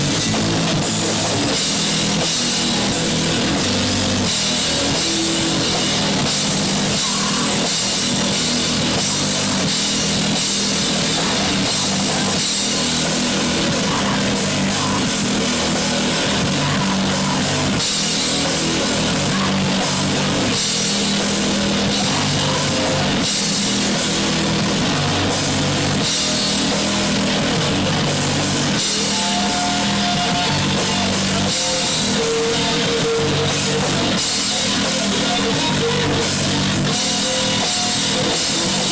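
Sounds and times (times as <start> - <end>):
distorted electric guitars: 0.0 - 38.9
drum kit: 0.0 - 38.9
punk rock song: 0.0 - 38.9.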